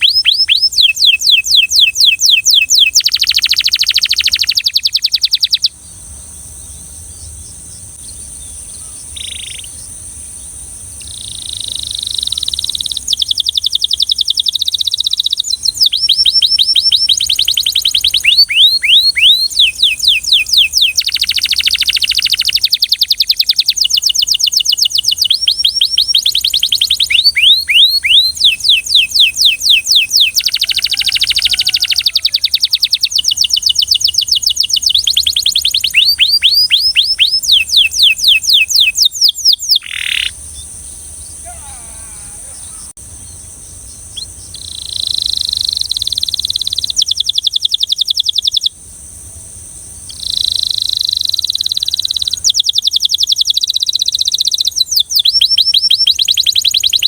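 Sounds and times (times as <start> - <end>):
canary singing trills: 0.0 - 48.8, 50.0 - 57.0.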